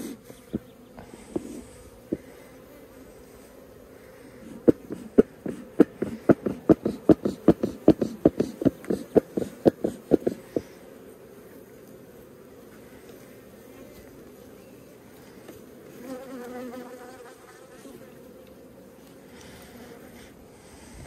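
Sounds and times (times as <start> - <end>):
honeybees humming: 0.0 - 21.0.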